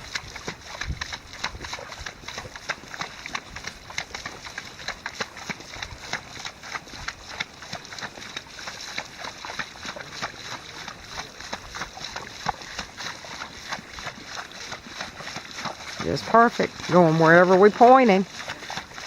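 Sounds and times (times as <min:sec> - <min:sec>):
horse hooves splashing in water: 0:00.0 - 0:19.0.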